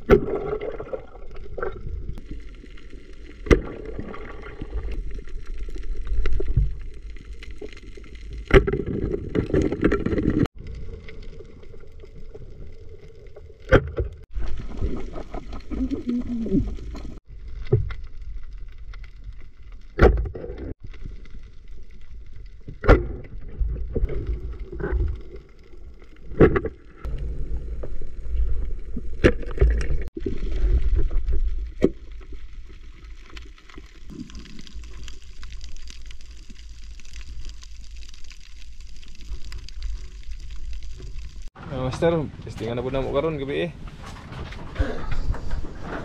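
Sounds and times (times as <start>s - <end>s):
underwater low rumble: 0.0s - 41.5s.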